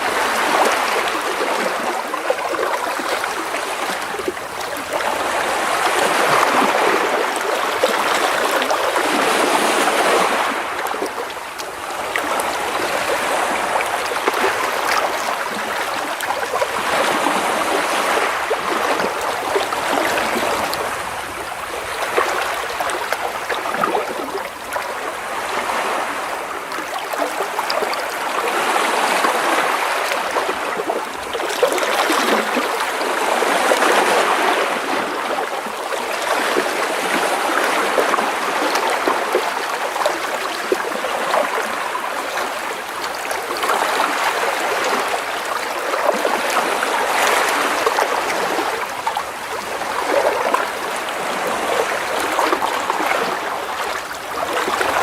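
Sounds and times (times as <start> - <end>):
waves splashing against rocks: 0.0 - 55.0.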